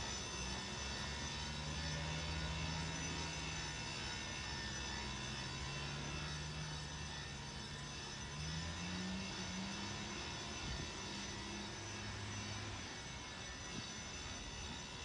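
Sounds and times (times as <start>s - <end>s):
electric motor droning: 0.0s - 15.0s.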